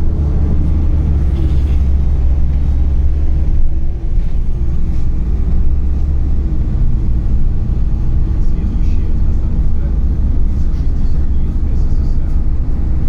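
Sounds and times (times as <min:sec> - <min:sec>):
bus engine and road rumble: 0:00.0 - 0:13.0
drivetrain whine: 0:00.0 - 0:13.0.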